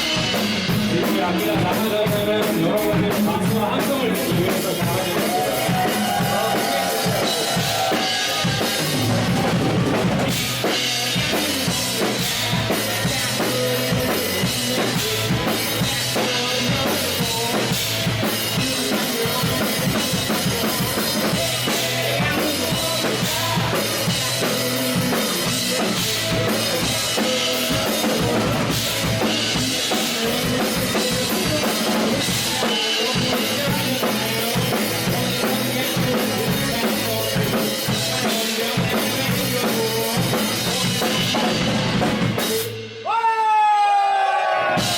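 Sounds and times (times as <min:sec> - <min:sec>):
live band playing: 0:00.0 - 0:43.2, 0:44.4 - 0:44.9.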